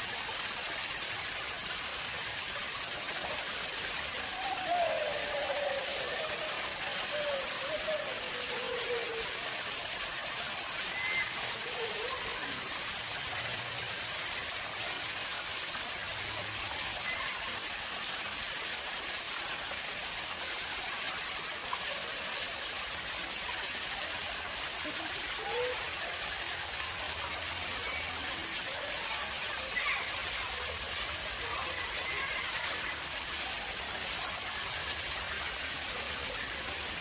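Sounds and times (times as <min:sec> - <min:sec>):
water flowing into a pond: 0:00.0 - 0:37.0.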